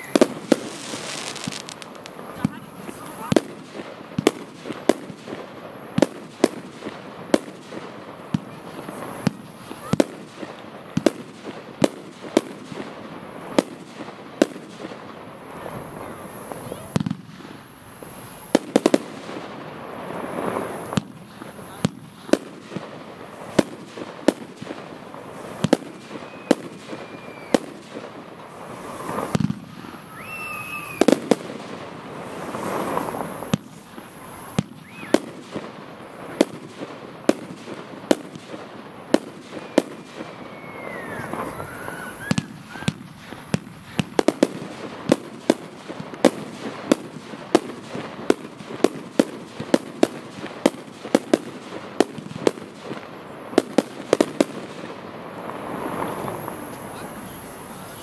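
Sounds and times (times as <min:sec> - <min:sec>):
fireworks bangs and crackle: 0:00.0 - 0:58.0
whistling fireworks: 0:00.0 - 0:58.0.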